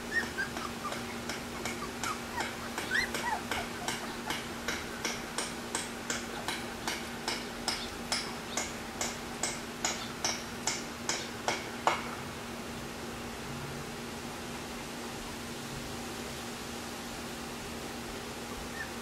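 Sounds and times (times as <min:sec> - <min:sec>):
electric fan hum: 0:00.0 - 0:19.0.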